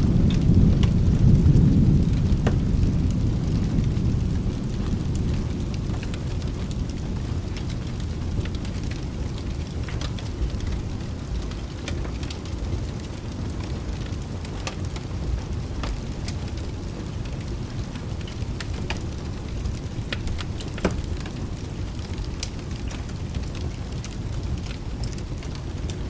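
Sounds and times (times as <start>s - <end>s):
low continuous rumble: 0.0s - 26.0s
steady rain: 0.0s - 26.0s
wood fire crackling: 0.0s - 26.0s.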